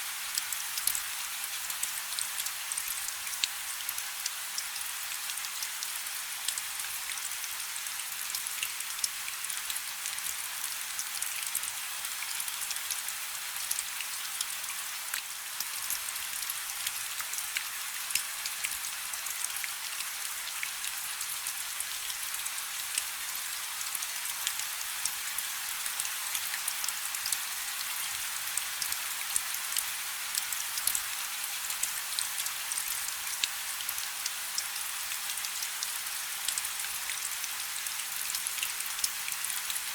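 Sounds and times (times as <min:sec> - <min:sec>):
rain falling on a river: 0:00.0 - 0:39.9.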